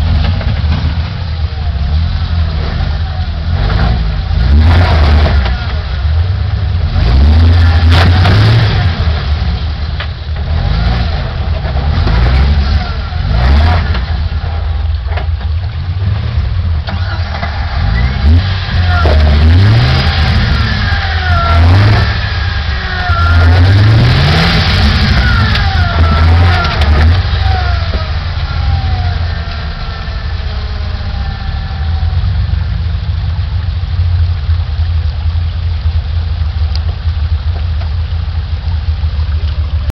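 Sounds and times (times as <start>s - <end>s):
engine revving at low speed: 0.0s - 39.9s.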